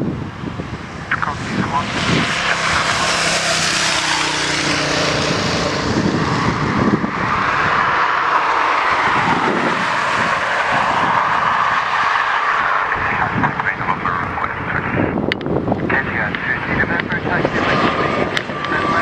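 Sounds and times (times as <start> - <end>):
low propeller hum: 0.0 - 19.0
turboprop engines roaring: 0.0 - 19.0.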